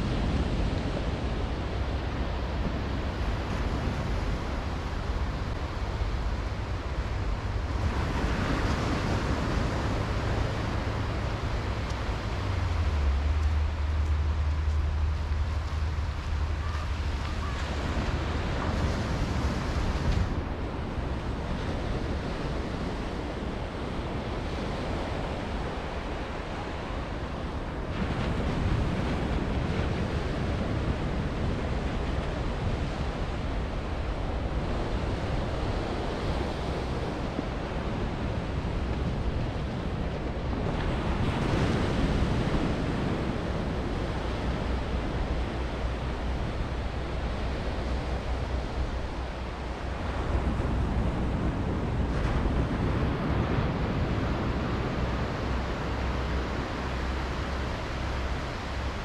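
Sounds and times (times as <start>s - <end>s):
small waves washing up beach: 0.0s - 59.0s
wind rumble on microphone: 0.0s - 59.0s.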